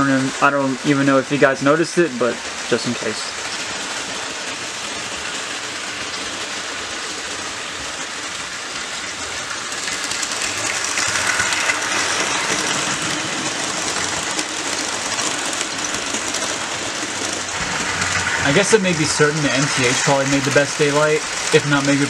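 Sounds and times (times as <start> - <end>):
model train whirring on track: 0.0 - 22.0.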